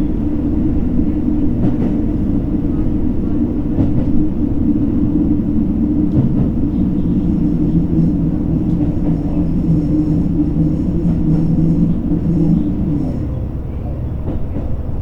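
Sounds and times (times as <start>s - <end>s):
railcar engine drone: 0.0s - 15.0s.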